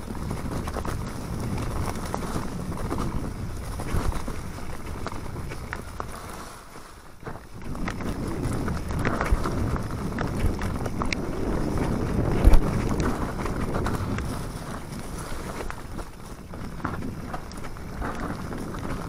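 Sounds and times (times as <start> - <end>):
bike rattling and clicking: 0.0 - 19.0
bike tyres over leaves and dirt: 0.0 - 19.0
wind buffeting microphone: 0.0 - 19.0.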